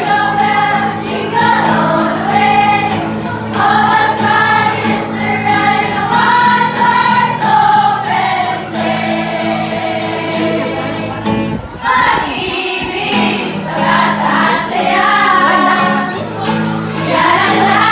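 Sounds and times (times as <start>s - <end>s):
acoustic guitar: 0.0s - 17.9s
group singing: 0.0s - 17.9s.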